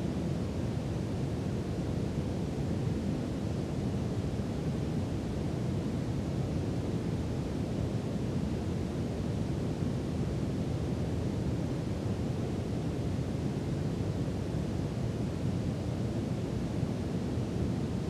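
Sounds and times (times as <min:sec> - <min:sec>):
brown noise rumbling hiss: 0:00.0 - 0:18.0.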